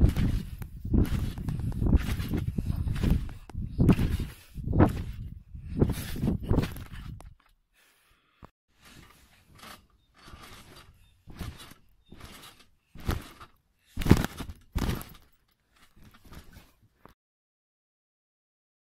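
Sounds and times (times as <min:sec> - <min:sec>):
thumps of feet on trampoline: 0:00.0 - 0:07.4, 0:08.8 - 0:17.1
trampoline frame shaking: 0:00.0 - 0:07.5, 0:08.7 - 0:17.1.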